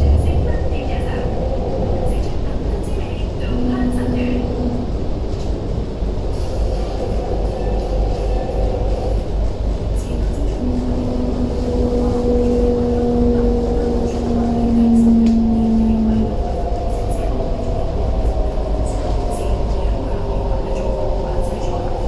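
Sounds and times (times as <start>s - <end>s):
steady hum: 0.0s - 21.7s
train wheels rumbling: 0.0s - 22.0s.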